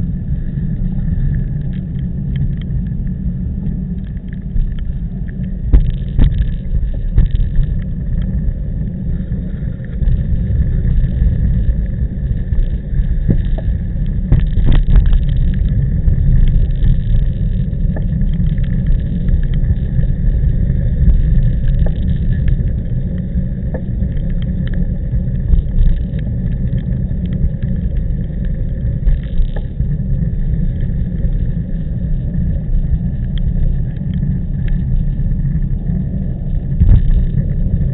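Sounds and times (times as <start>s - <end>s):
wind rumbling on microphone: 0.0s - 37.9s.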